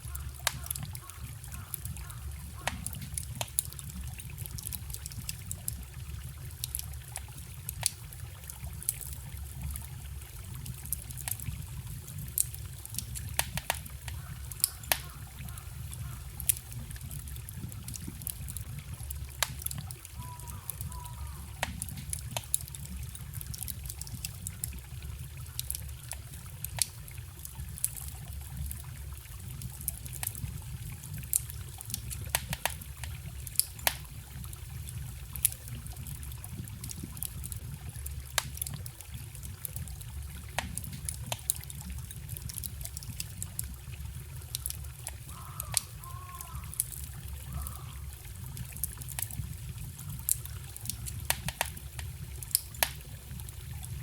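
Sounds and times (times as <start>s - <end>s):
stream trickling: 0.0s - 54.0s
wood fire crackling and popping: 0.0s - 54.0s.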